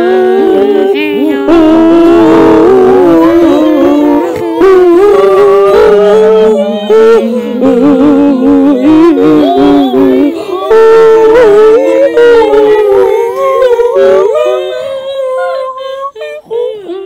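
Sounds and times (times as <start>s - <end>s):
chorus of howls: 0.0s - 17.0s.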